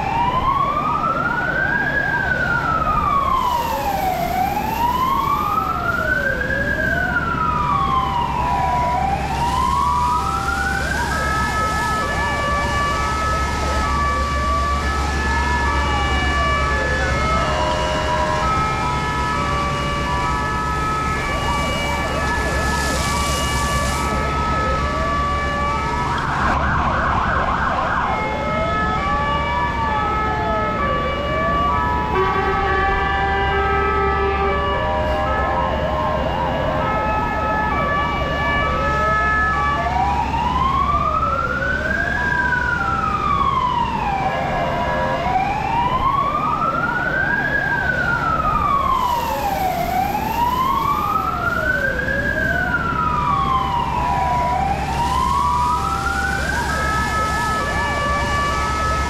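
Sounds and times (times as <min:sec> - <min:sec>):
fire engine sirens wailing: 0:00.0 - 0:59.0.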